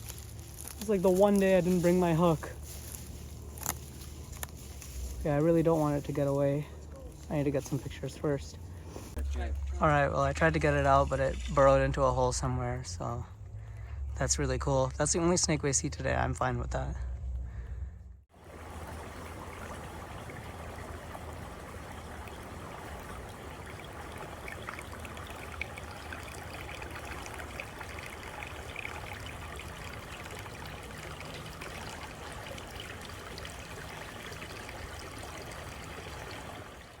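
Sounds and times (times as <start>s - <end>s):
creek water flowing: 0.0s - 12.4s, 18.3s - 37.0s.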